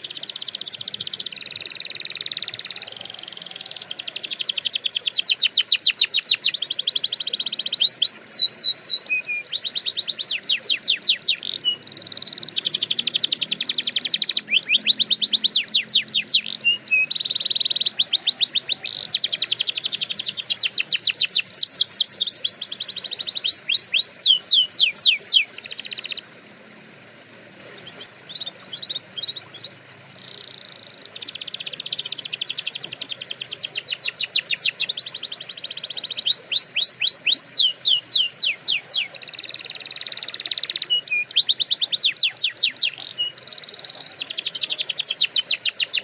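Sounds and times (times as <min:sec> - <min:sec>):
canary singing trills: 0:00.0 - 0:26.7, 0:27.8 - 0:46.0.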